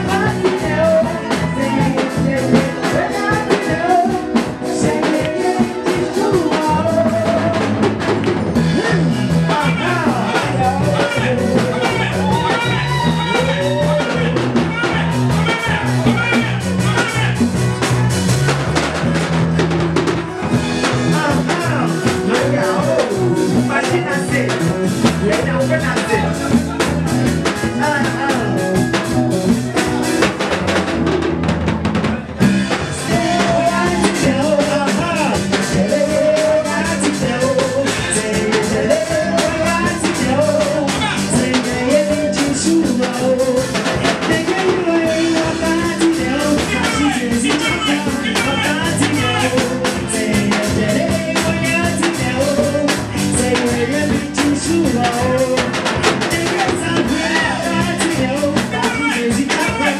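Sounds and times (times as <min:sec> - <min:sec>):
person singing gospel: 0:00.0 - 0:19.2, 0:20.0 - 0:31.0, 0:32.1 - 0:59.9
bass line: 0:00.0 - 0:59.9
drums: 0:00.0 - 0:59.9.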